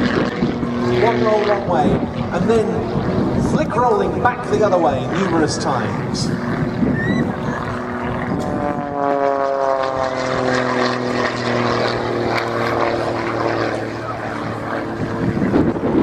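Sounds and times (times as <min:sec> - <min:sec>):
propeller plane engine: 0:00.0 - 0:16.0.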